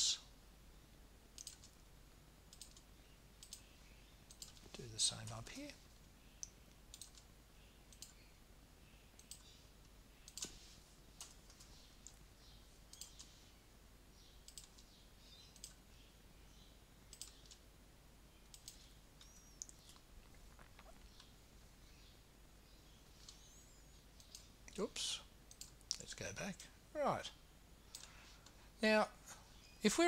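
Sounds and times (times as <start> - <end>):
faint room hiss: 0.0 - 30.0.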